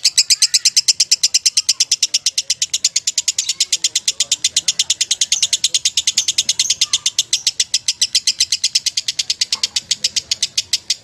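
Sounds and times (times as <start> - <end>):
lovebird chattering trill: 0.0 - 11.0.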